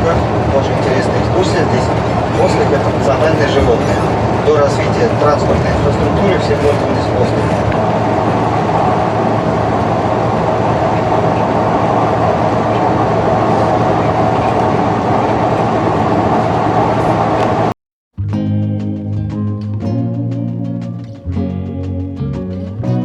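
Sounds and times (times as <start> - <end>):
acoustic guitar music: 0.0 - 15.6, 18.2 - 23.0
bus engine and road noise: 0.0 - 17.8, 18.9 - 23.0.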